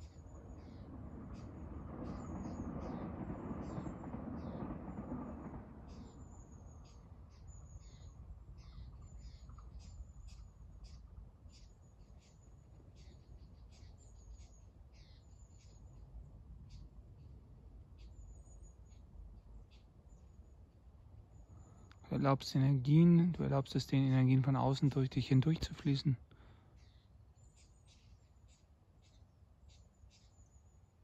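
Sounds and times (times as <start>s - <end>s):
steady low rumble: 0.0s - 27.6s
songbirds chirping: 0.0s - 31.0s.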